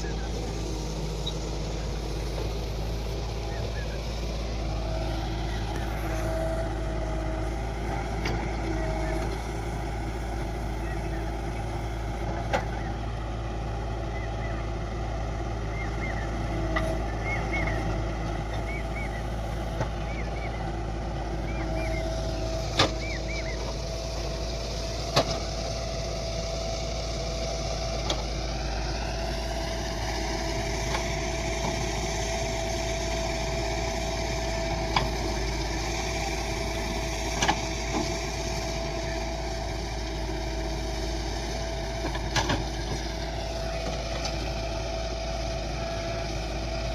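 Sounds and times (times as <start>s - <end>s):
heavy machinery diesel engines: 0.0s - 46.9s.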